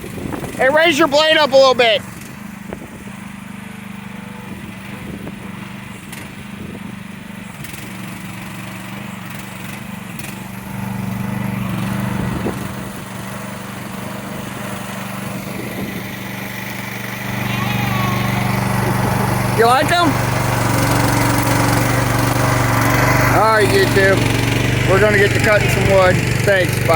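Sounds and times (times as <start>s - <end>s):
small excavator engine running: 0.0s - 26.9s.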